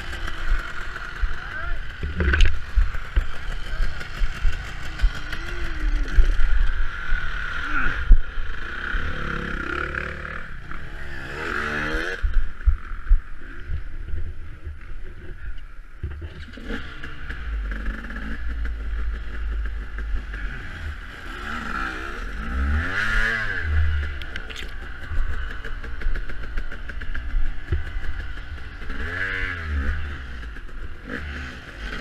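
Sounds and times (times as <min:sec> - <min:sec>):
dirt bike engine revving: 0:00.0 - 0:13.7, 0:16.4 - 0:32.0.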